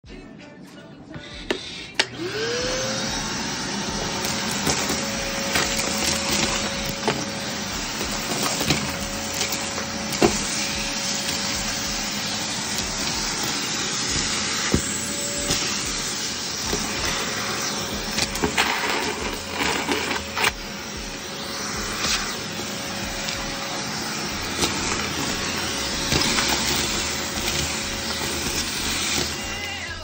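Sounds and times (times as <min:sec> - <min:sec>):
vacuum cleaner running: 0:01.1 - 0:30.0.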